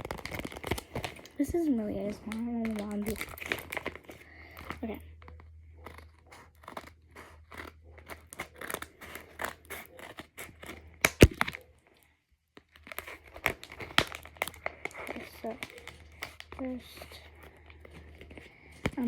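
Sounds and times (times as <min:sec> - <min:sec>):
paper crinkling and tearing: 0:00.0 - 0:11.9, 0:12.6 - 0:19.0.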